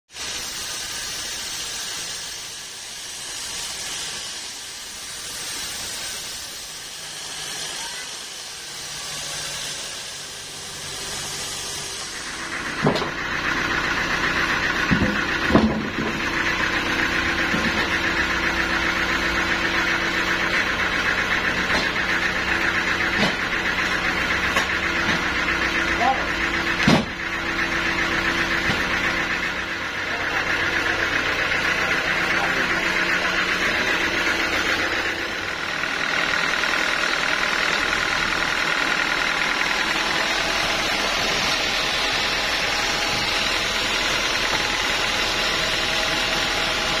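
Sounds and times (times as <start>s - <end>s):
sawmill machinery humming: 0.1s - 47.0s
bandsaw cutting log: 0.3s - 47.0s.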